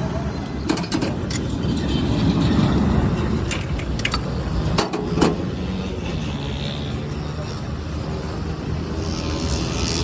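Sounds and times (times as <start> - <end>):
low engine-like drone: 0.0 - 10.0.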